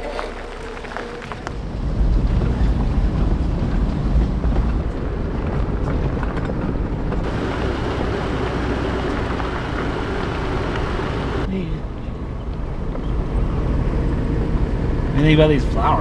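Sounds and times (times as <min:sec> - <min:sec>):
wind noise: 0:00.0 - 0:15.1
vehicle engine and tyres rumbling: 0:00.0 - 0:16.0.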